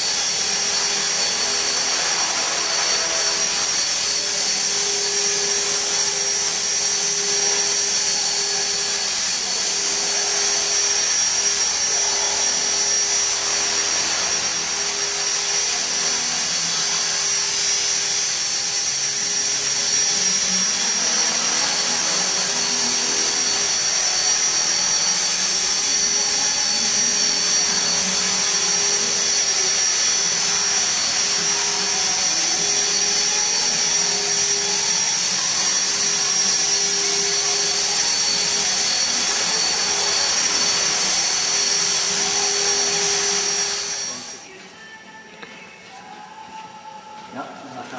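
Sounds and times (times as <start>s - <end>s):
spinning rotors humming: 0.0s - 44.4s
electric motor high whine: 0.0s - 44.6s.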